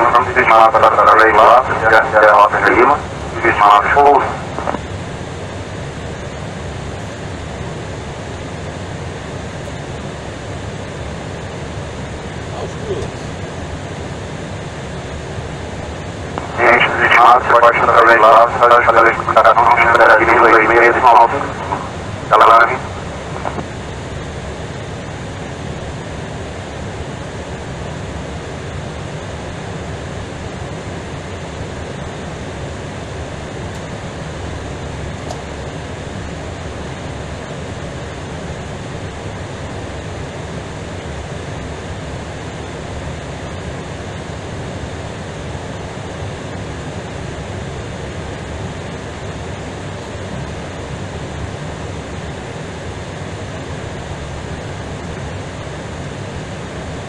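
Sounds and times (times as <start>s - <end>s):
aircraft cockpit hiss and rumble: 0.0s - 57.0s.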